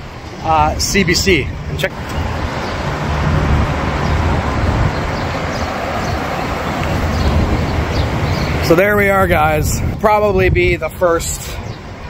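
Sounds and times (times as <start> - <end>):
low engine rumble: 0.0 - 11.2
vehicles passing hiss: 0.0 - 12.0.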